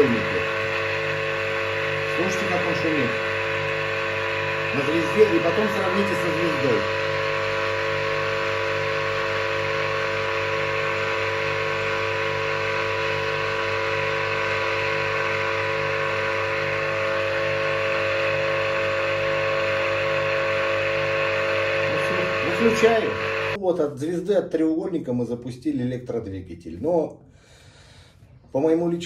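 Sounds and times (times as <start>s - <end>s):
electric motor humming: 0.0s - 23.6s.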